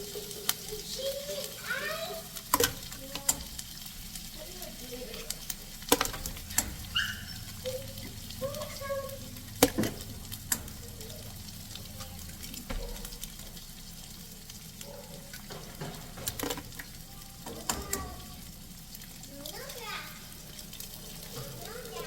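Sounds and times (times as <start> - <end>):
eggs sizzling in a pan: 0.0 - 22.0.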